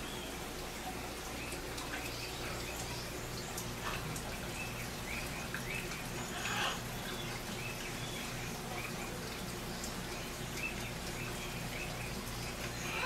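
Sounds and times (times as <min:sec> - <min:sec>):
aquarium air pumps humming: 0:00.0 - 0:13.0.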